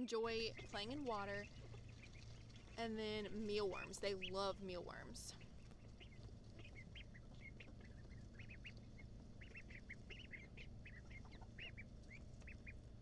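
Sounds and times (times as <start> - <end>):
ducklings peeping: 0.1 - 13.0.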